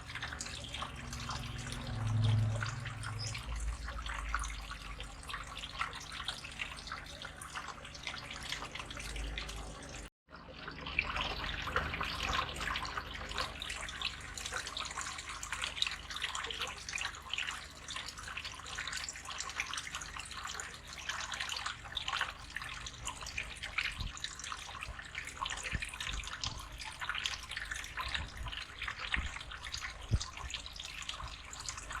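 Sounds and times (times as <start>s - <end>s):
water trickling into fish tank: 0.0s - 32.0s.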